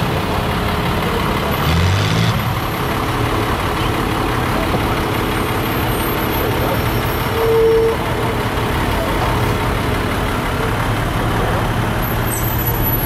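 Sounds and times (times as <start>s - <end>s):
fire engine rumbling past: 0.0s - 13.0s.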